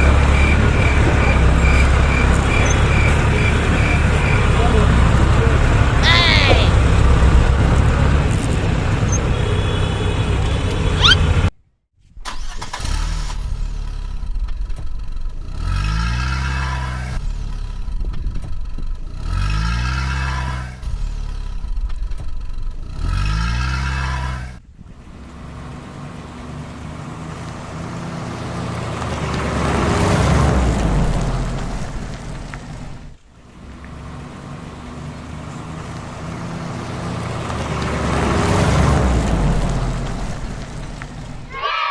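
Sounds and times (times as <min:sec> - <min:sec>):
vehicle engine revving: 0:00.0 - 0:11.5, 0:12.3 - 0:41.6.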